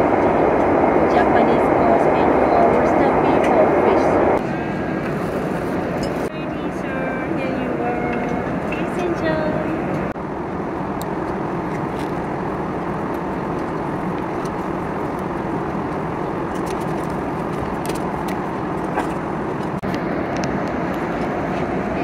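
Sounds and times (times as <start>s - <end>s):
airplane cabin hum: 0.0s - 22.0s.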